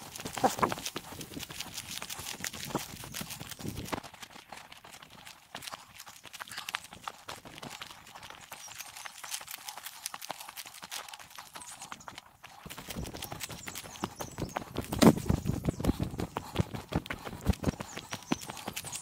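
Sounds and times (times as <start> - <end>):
running footsteps and paws on trail: 0.0 - 19.0.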